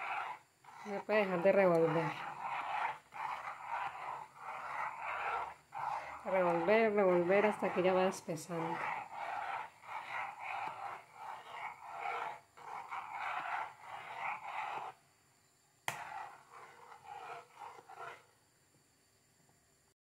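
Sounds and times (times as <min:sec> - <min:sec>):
metal spoon stirring in a pot: 0:00.0 - 0:15.0, 0:15.9 - 0:18.2.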